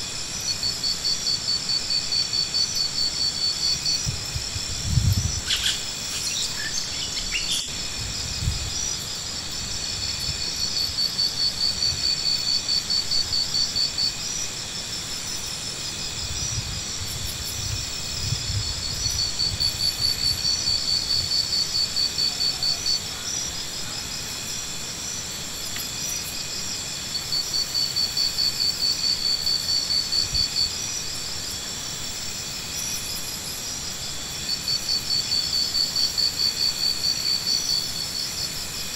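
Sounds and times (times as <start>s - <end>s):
insects chirping trill: 0.0s - 38.9s.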